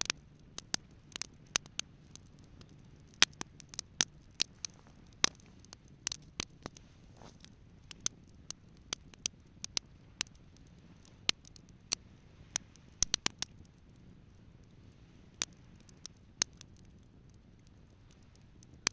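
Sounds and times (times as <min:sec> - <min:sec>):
campfire crackling and popping: 0:00.0 - 0:18.9.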